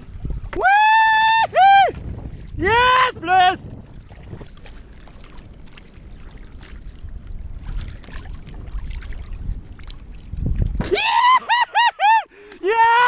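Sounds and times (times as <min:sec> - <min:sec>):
wind rumbling on microphone: 0:00.0 - 0:11.8
water sloshing around kayak: 0:00.0 - 0:13.0.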